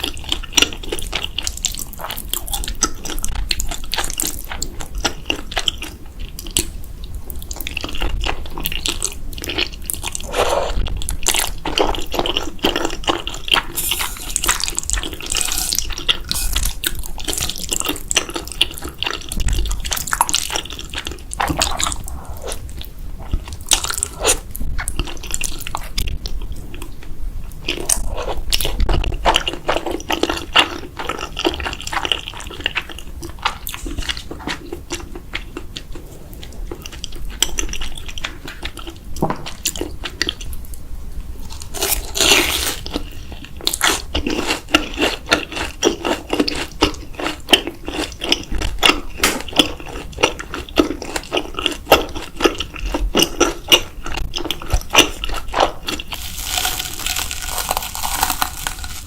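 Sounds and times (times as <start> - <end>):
person chewing: 0.0 - 40.8, 41.4 - 59.0.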